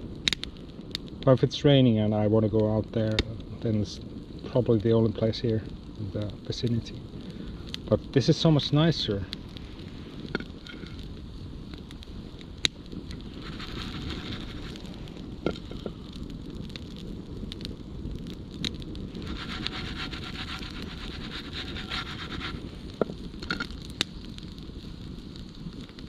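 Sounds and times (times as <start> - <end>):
sharp pops of burning wood: 0.0 - 26.0
wood fire crackling: 0.0 - 26.0.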